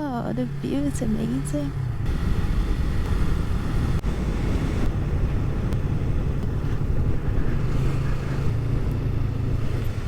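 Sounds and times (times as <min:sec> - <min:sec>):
wind buffeting microphone: 0:00.5 - 0:10.0.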